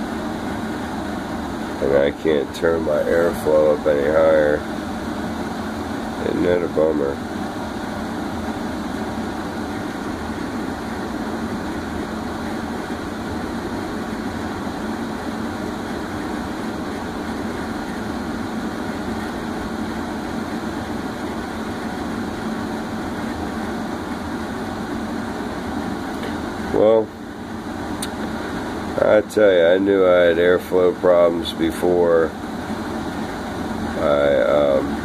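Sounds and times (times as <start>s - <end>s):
blower air rush and motor hum: 0.0s - 35.0s.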